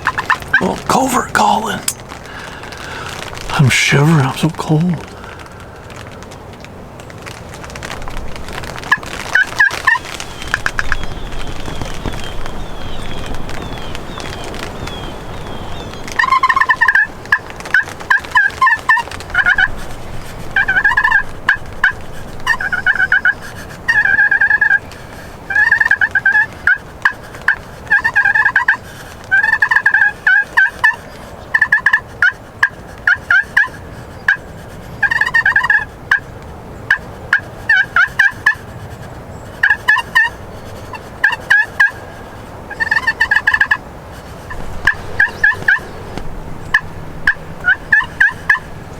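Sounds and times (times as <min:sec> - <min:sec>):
turkeys gobbling: 0:00.0 - 0:06.2, 0:07.6 - 0:48.9.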